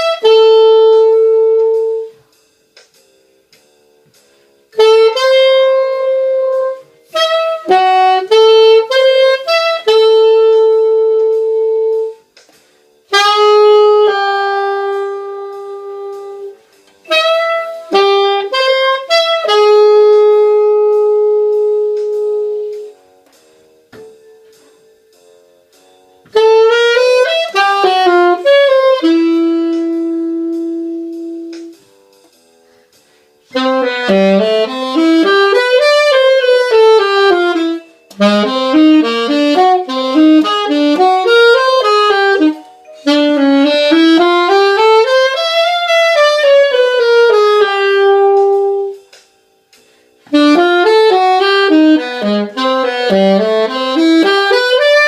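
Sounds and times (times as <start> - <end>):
saxophone playing jazz melody: 0.0 - 2.2, 4.7 - 12.4, 13.0 - 23.2, 26.2 - 31.9, 33.4 - 49.1, 50.2 - 55.0.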